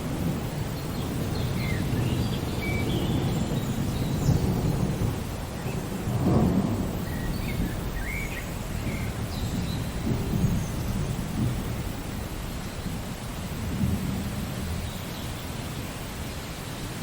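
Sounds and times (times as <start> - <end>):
rolling thunder: 0.0 - 15.1
steady rain: 0.0 - 17.0.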